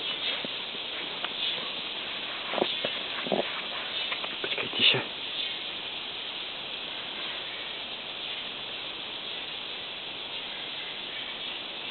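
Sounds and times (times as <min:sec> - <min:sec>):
insect chorus hissing drone: 0:00.0 - 0:11.9.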